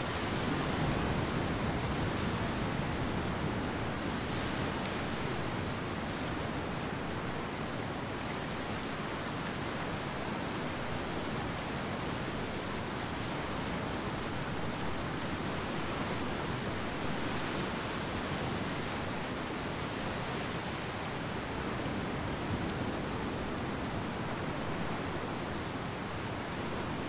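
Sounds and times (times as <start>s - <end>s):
ocean surf on a beach: 0.0s - 27.0s.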